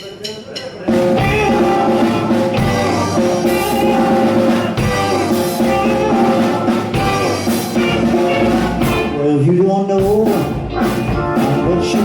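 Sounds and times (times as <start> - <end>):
rock and roll band playing: 0.0 - 12.0.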